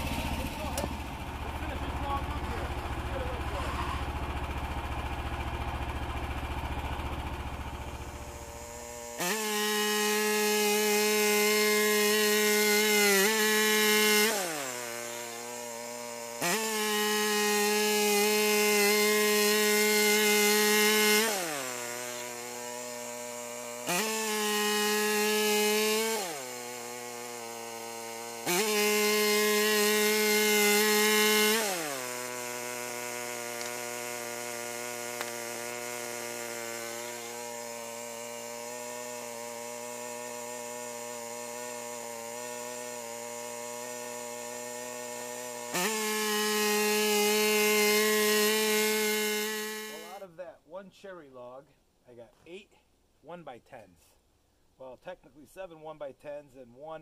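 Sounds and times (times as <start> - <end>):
petrol engine revving and idling: 0.0 - 50.3.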